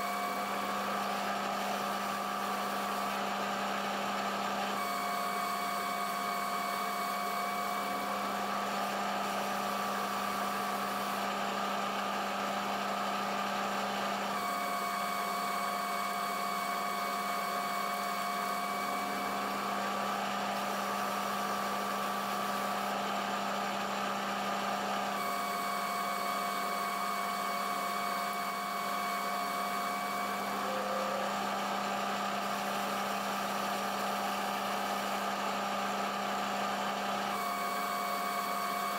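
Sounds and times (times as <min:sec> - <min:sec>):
metal lathe whining: 0:00.0 - 0:38.9.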